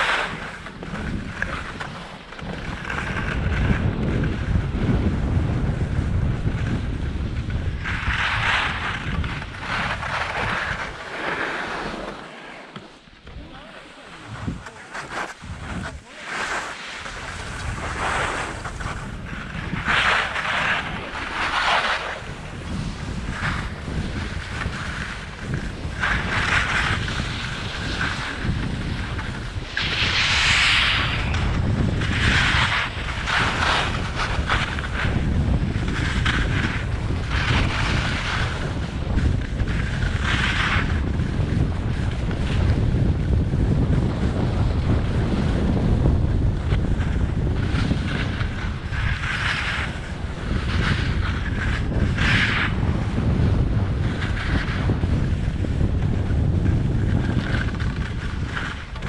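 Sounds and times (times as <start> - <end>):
skis carving on snow: 0.0 - 59.0
wind rumbling on microphone: 0.0 - 59.0.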